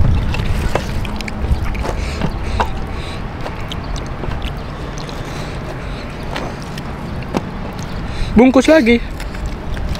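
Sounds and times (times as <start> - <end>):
wind rumble on microphone: 0.0 - 8.4.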